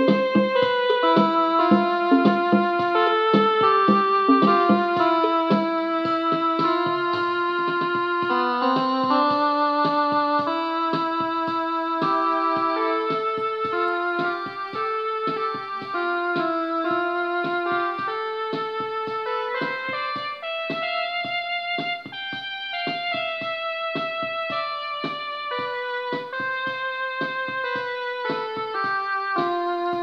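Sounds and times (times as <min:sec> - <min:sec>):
electronic keyboard playing a tune: 0:00.0 - 0:30.0
steady rhythmic beat: 0:00.0 - 0:30.0.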